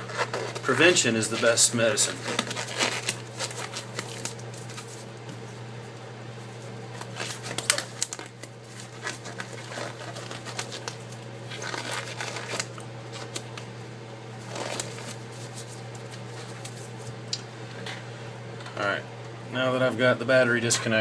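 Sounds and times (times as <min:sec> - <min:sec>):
rubber gloves rustling: 0:00.0 - 0:17.3
steady low hum: 0:00.0 - 0:21.0.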